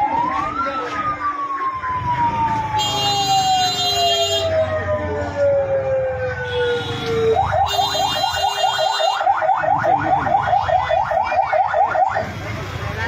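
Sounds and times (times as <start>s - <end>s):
electronic vehicle siren: 0.0s - 12.3s.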